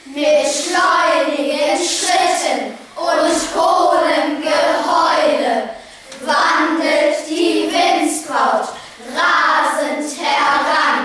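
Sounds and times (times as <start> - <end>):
children reciting in chorus: 0.0 - 11.0.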